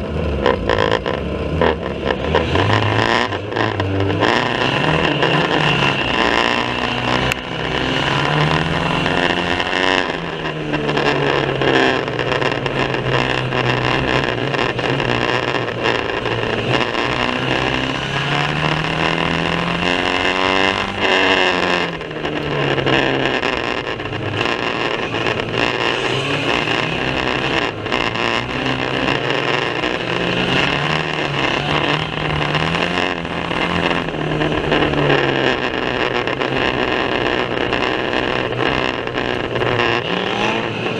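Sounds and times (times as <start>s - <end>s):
racing car engine revving: 0.0s - 40.9s.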